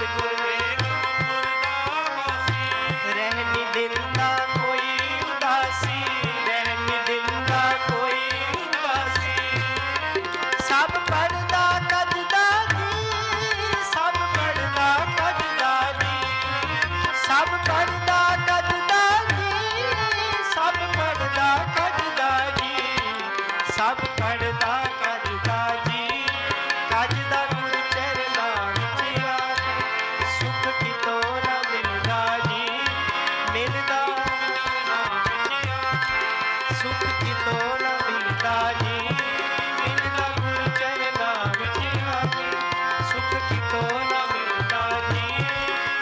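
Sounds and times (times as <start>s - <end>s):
reedy harmonium melody: 0.0s - 46.0s
tabla rhythm: 0.0s - 46.0s.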